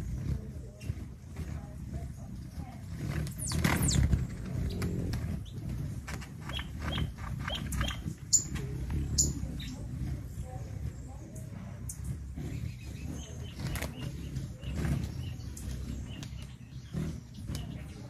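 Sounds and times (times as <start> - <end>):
birds chirping: 0.0 - 18.0
low rumble: 0.0 - 18.0.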